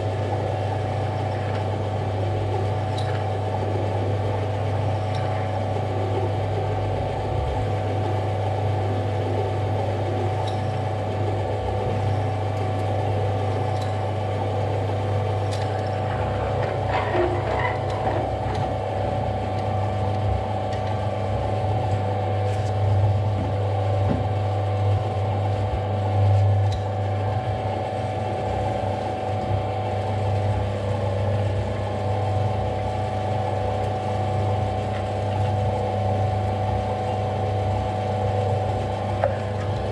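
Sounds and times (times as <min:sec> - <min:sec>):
lathe motor hum: 0:00.0 - 0:39.9.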